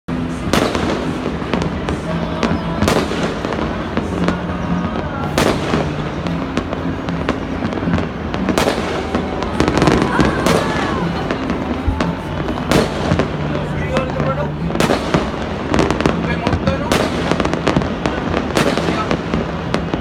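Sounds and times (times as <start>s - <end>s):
fireworks crackling: 0.1s - 20.0s
loud firework bangs: 0.2s - 20.0s.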